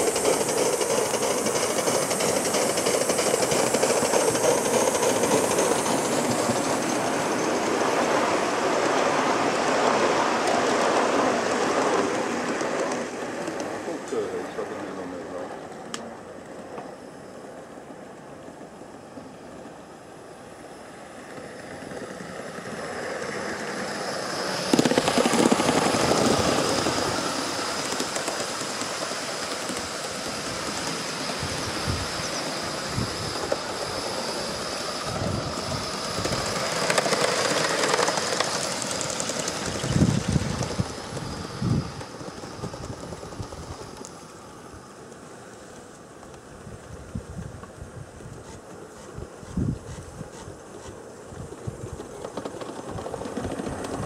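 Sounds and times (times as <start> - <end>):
model train wheels rolling on track: 0.0 - 54.0.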